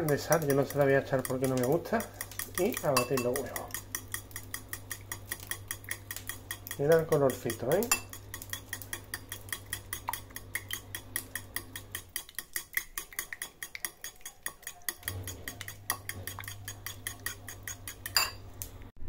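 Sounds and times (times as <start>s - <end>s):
fork clinking in ceramic bowl: 0.0s - 18.5s.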